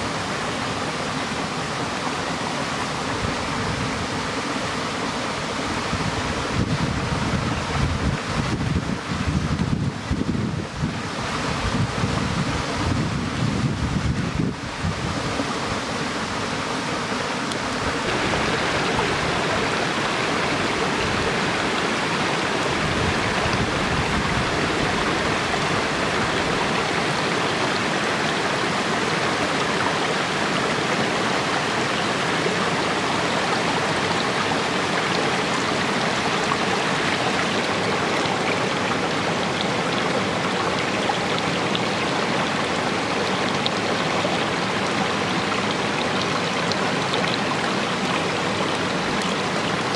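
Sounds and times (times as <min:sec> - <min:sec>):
stream flowing over rocks: 0:00.0 - 0:49.9.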